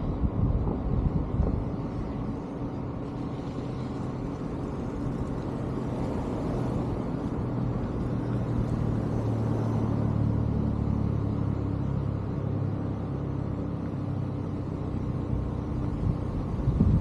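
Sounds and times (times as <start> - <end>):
road noise: 0.0 - 17.0
vehicle engine running: 0.0 - 17.0.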